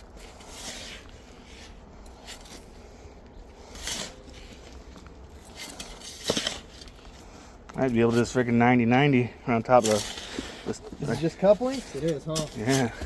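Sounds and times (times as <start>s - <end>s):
shovel scraping soil: 0.0s - 7.4s, 9.8s - 13.0s.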